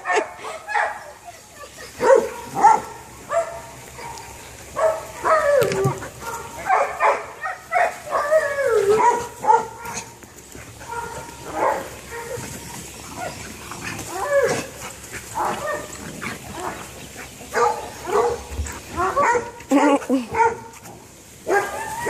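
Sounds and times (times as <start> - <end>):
dogs barking and whining: 0.0 - 22.0.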